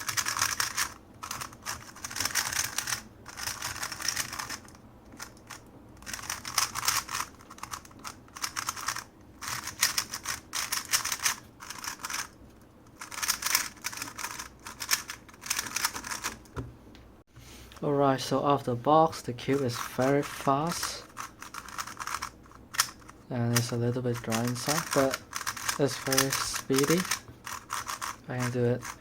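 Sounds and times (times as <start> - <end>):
puzzle cube clicking and scratching: 0.0 - 16.6, 19.5 - 29.0.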